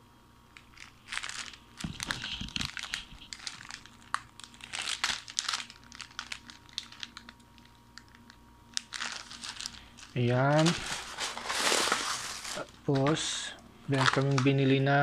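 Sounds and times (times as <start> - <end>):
plastic packet crinkling: 0.6 - 15.0.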